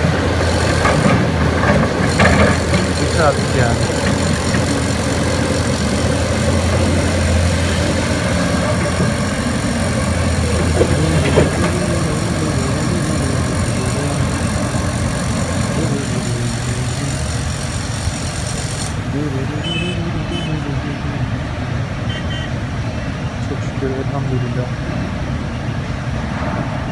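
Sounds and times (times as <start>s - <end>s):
construction machinery engine drone: 0.0s - 26.9s.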